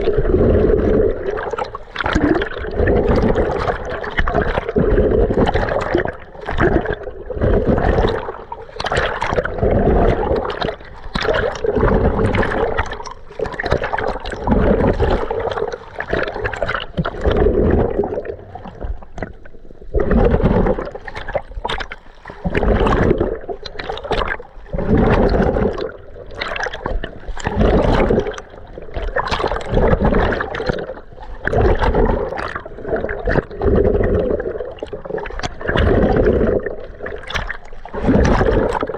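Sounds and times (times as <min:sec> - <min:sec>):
water sloshing and gurgling: 0:00.0 - 0:38.9.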